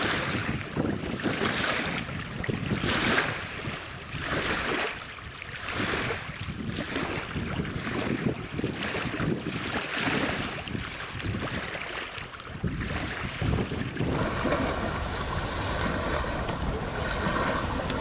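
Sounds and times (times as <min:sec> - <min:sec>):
gusty wind on microphone: 0:00.0 - 0:18.0.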